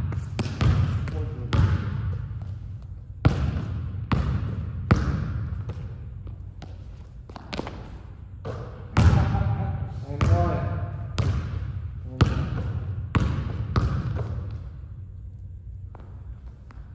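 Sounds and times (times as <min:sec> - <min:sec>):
basketball bouncing on hardwood floor: 0:00.0 - 0:14.7.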